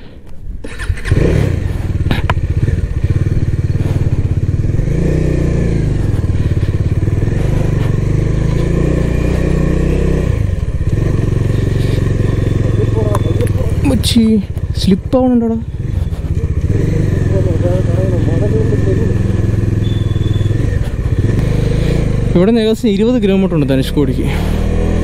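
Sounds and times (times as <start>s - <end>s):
motorcycle engine running: 0.7s - 25.0s.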